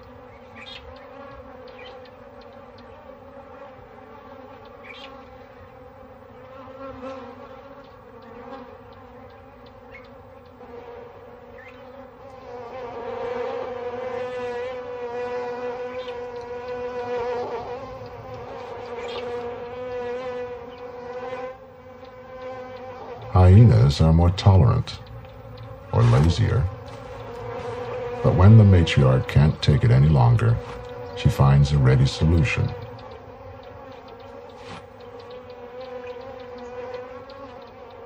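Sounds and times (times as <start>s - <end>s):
bees buzzing: 0.0s - 38.0s.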